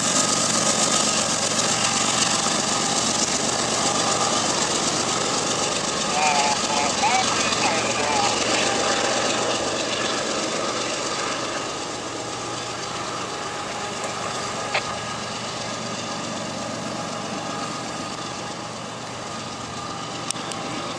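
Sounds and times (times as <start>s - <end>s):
diesel locomotive engine: 0.0s - 20.9s.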